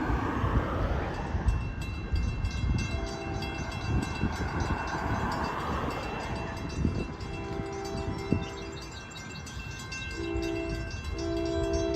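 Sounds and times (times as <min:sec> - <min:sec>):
passenger train rumbling: 0:00.0 - 0:11.9.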